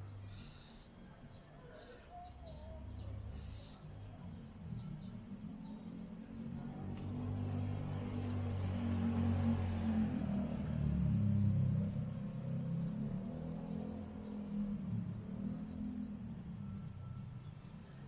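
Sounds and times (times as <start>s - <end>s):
vehicle engine rumble passing: 1.7s - 18.0s.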